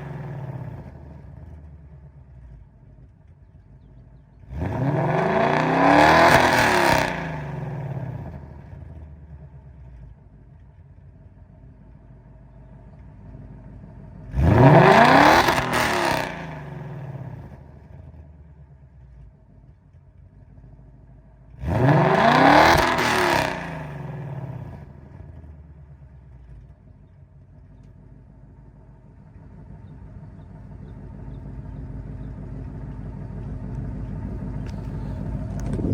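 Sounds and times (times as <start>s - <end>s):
car engine revving and idling: 0.0s - 35.9s.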